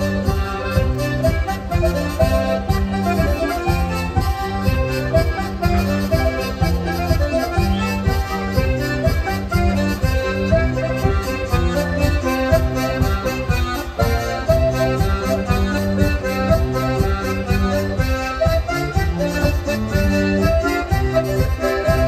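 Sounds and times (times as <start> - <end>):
alternating bass line: 0.0 - 22.0
lively folk dance melody: 0.0 - 22.0.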